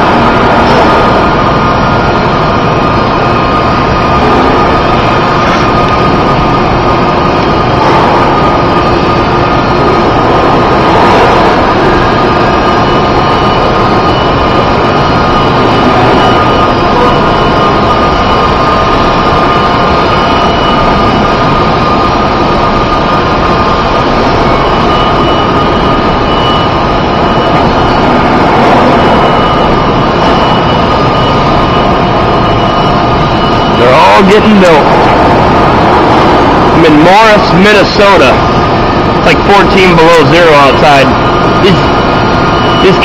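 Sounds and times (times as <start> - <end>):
machinery drone: 0.0 - 43.0.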